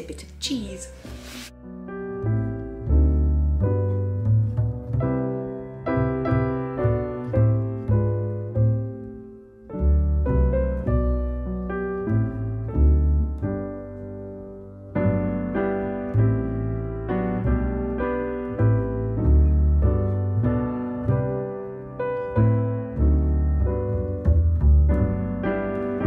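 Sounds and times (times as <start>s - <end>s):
instrumental background music: 0.0s - 26.0s.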